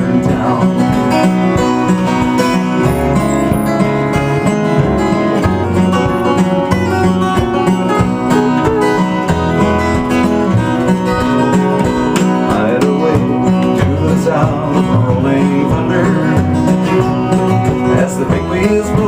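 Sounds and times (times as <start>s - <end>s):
fingerpicked acoustic string instrument: 0.0s - 19.0s.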